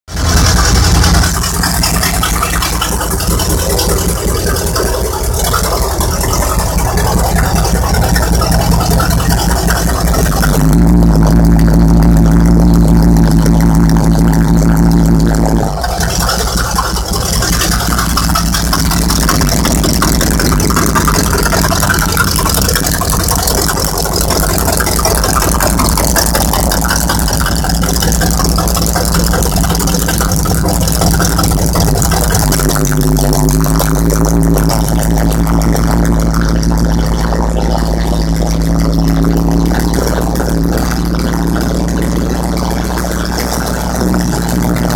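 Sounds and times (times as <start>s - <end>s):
lawn mower engine idling: 0.0s - 44.9s.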